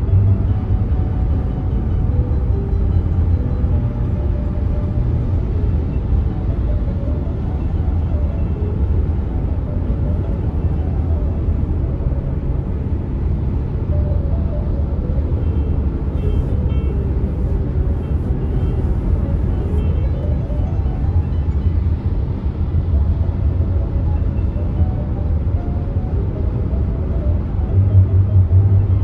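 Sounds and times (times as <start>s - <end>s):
faint music: 0.0s - 29.0s
road and tyre noise: 0.0s - 29.0s.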